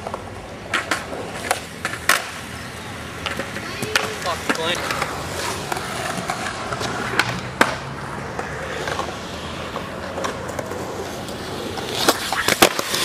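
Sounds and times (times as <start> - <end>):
sharp skateboard clacks: 0.0 - 13.0
skateboard wheels rolling on concrete: 0.0 - 13.0.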